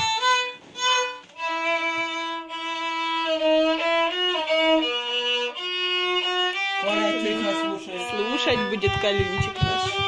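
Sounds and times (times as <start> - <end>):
solo violin slow melody: 0.0 - 10.0.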